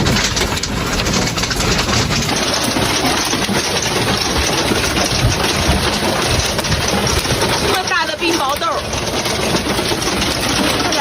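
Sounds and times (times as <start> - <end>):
hailstones clattering on vehicle: 0.0 - 11.0.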